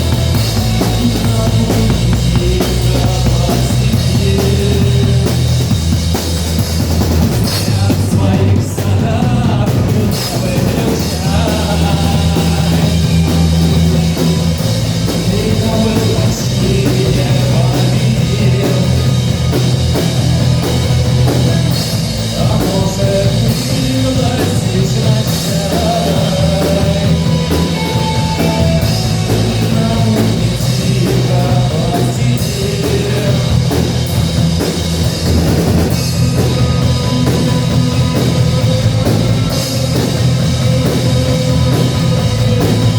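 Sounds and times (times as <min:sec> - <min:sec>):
rock band playing: 0:00.0 - 0:42.9.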